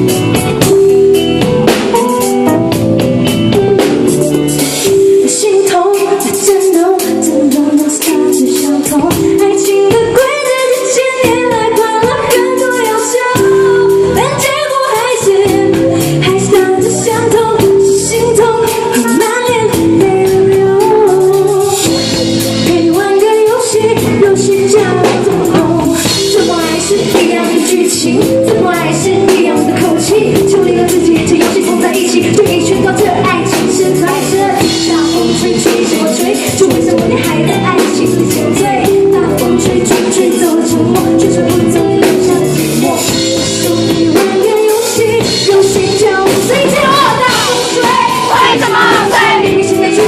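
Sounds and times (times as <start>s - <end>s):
steady drum beat: 0.0s - 14.0s, 15.2s - 50.0s
band accompaniment: 0.0s - 50.0s
woman singing pop song: 4.8s - 50.0s.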